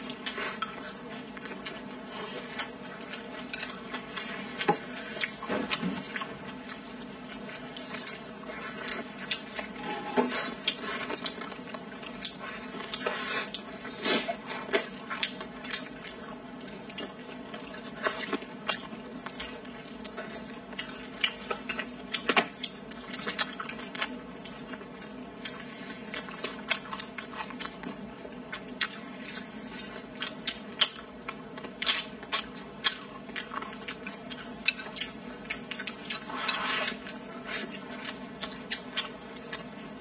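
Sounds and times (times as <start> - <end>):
faint steady hum: 0.0 - 40.0
people chewing with mouth clicks: 0.0 - 40.0.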